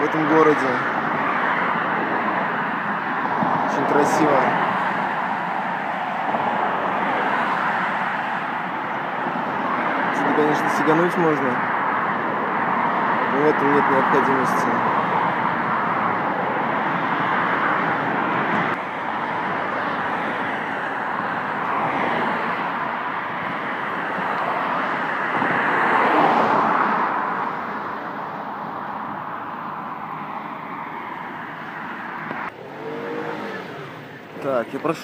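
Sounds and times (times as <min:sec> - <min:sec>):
traffic rushing on a bridge: 0:00.0 - 0:35.0.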